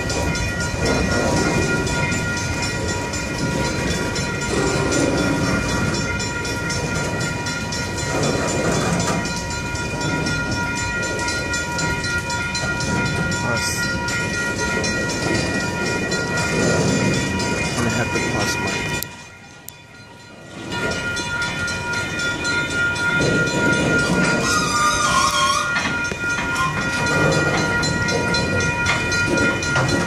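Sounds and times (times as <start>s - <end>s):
steady high-pitched tones: 0.0s - 30.0s
train wheels rumbling on rail: 0.0s - 30.0s.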